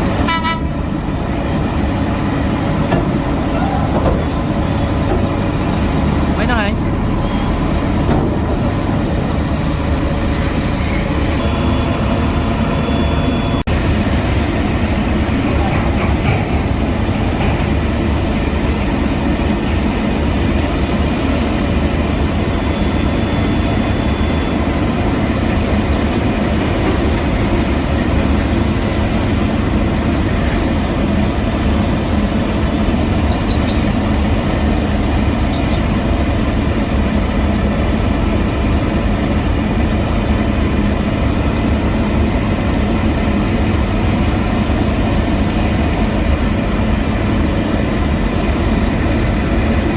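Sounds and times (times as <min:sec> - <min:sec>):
heavy diesel machinery rumbling: 0:00.0 - 0:49.9.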